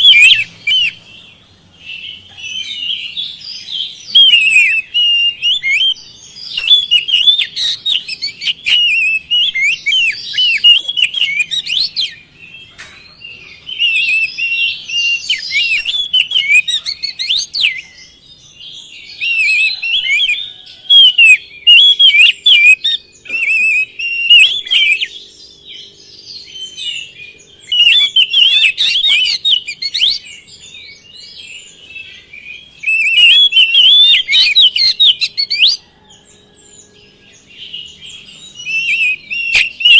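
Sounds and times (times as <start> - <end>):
bird singing whistled phrases: 0.0 - 12.2, 13.1 - 36.1, 37.6 - 39.9.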